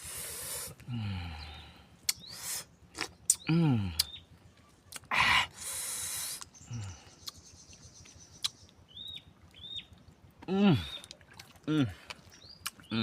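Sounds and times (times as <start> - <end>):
mouth and shell eating noise: 0.0 - 13.0.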